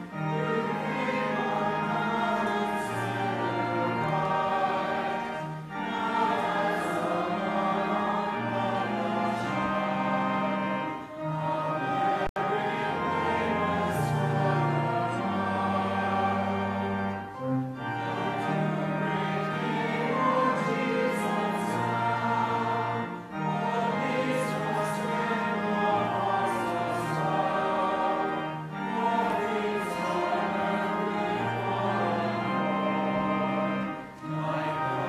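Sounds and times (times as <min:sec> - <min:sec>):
choir singing: 0:00.0 - 0:35.0
instrumental accompaniment: 0:00.0 - 0:35.0.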